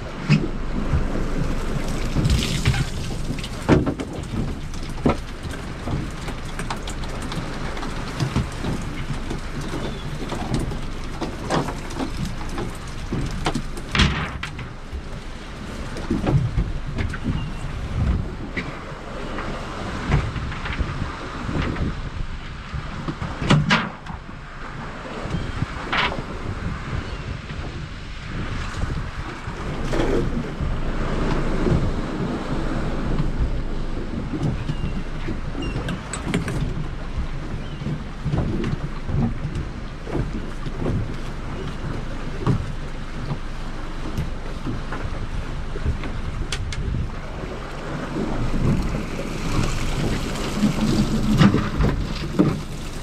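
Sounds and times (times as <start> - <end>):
water sloshing around boat: 0.0 - 53.0.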